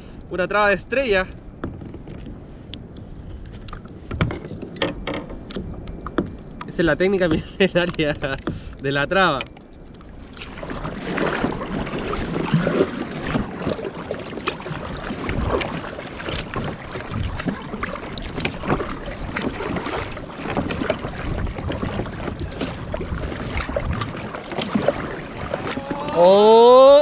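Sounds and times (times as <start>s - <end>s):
wind on microphone: 1.0s - 27.0s
water lapping against kayak hull: 1.2s - 27.0s.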